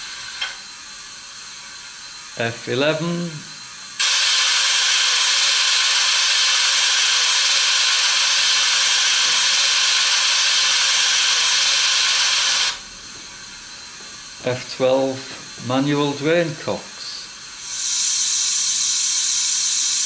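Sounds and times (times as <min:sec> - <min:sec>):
loud steady steam hiss: 0:00.0 - 0:20.0.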